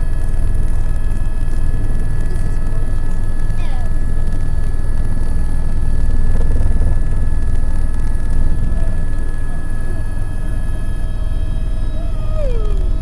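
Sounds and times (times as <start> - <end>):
helicopter deep drone: 0.0 - 13.0
helicopter turbine whine: 0.0 - 13.0.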